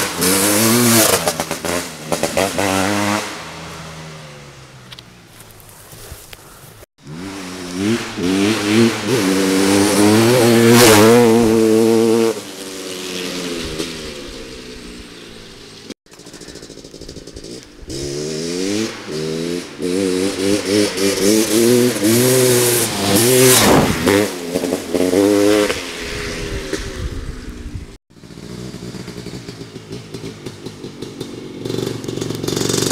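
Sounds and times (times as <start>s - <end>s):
dirt bike engine accelerating: 0.0s - 5.8s, 7.0s - 32.9s.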